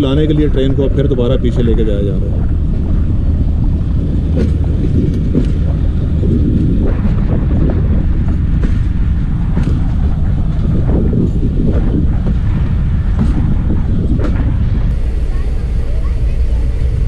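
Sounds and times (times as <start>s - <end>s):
wheels clicking over rail joints: 0.0s - 15.0s
train coaches rumbling: 0.0s - 17.0s.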